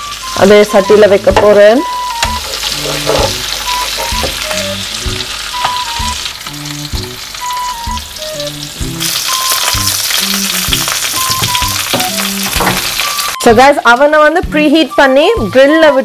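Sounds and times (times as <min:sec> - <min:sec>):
lobster sizzling in a pan: 0:00.0 - 0:14.1.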